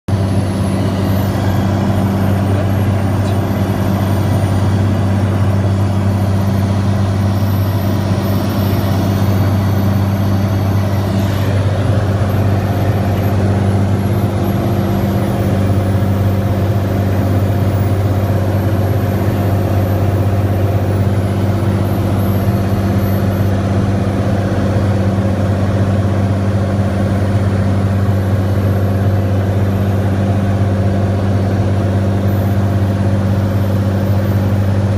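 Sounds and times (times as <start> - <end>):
aircraft piston engine and propeller drone: 0.1 - 34.9.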